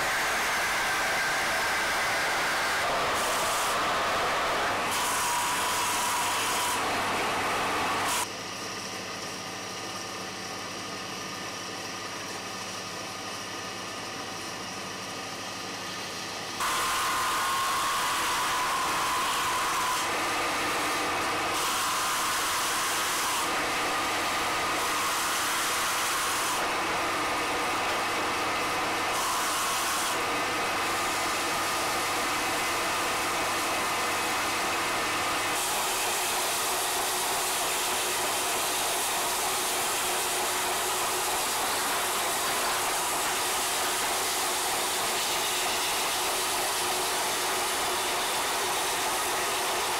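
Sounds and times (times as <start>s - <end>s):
tool hissing cutting stone: 0.0s - 8.3s, 16.6s - 49.9s
lathe machine hum: 0.0s - 49.9s.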